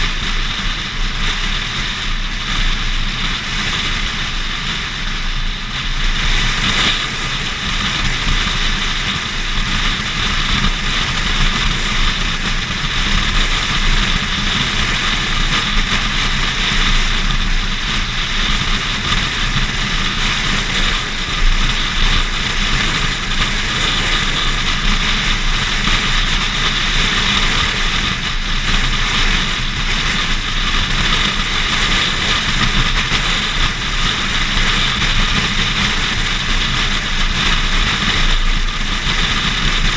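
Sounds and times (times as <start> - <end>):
tyre and road noise: 0.0 - 39.9
wind blowing across microphone: 0.0 - 39.9.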